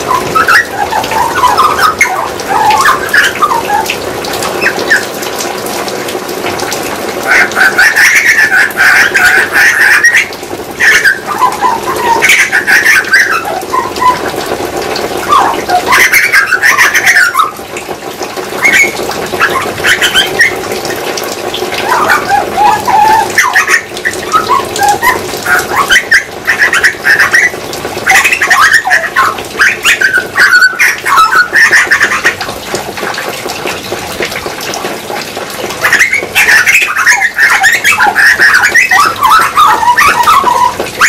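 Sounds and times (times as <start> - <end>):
birds singing warbled phrases: 0.0 - 34.6, 35.2 - 41.0.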